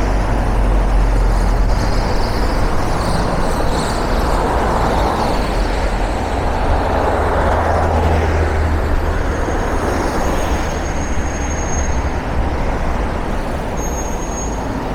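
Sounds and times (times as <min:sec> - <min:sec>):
traffic rumble: 0:00.0 - 0:14.9.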